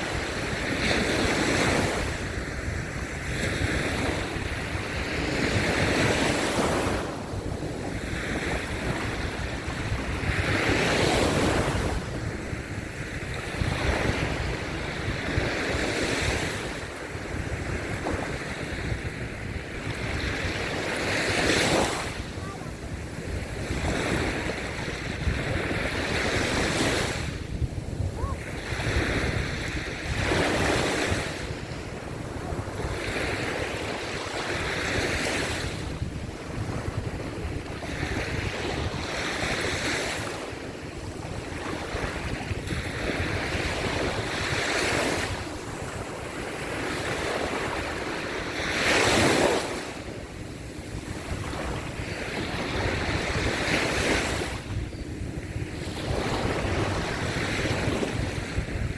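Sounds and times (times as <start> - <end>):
small surf on sandy beach: 0.0 - 58.9
wind rumbling on microphone: 0.0 - 58.9.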